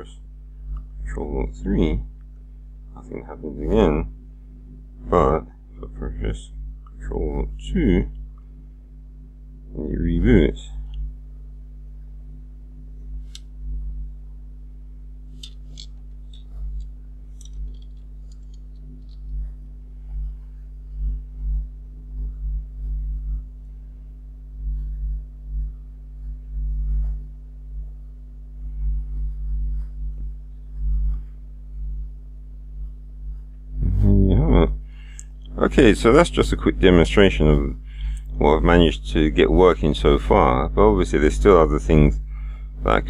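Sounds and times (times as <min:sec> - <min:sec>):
low electrical hum with tones: 0:00.0 - 0:43.0.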